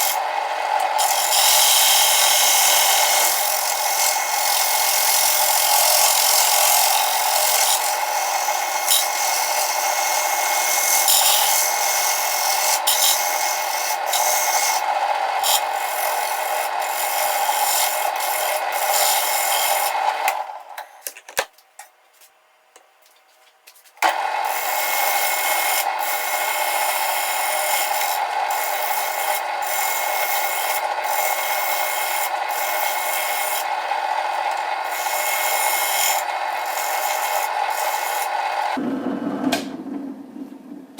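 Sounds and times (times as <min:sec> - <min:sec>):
lathe tool scraping wood: 0:00.0 - 0:20.8, 0:24.0 - 0:38.8.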